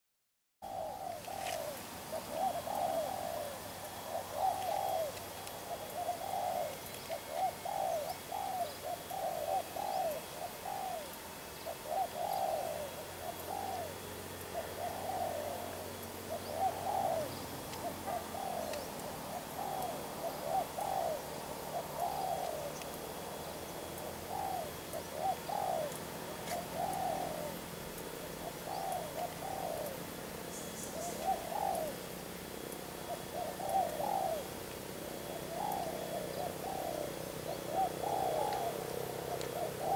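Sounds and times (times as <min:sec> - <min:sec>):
dove cooing: 0:00.6 - 0:39.9.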